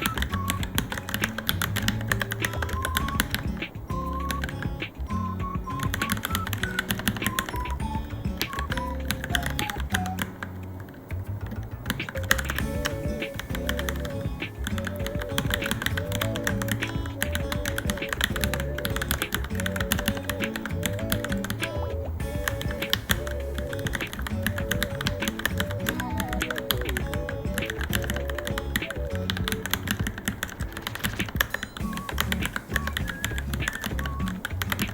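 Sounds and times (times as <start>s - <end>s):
background music: 0.0s - 34.9s
mechanical keyboard typing: 5.7s - 34.9s.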